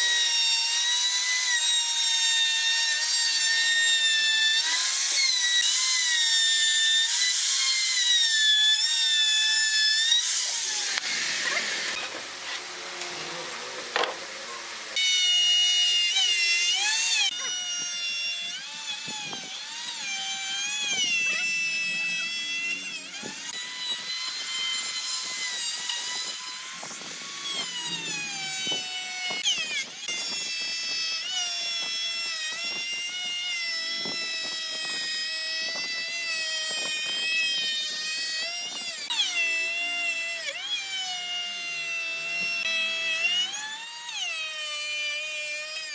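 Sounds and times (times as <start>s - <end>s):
router motor whine cutting wood: 0.0s - 45.9s.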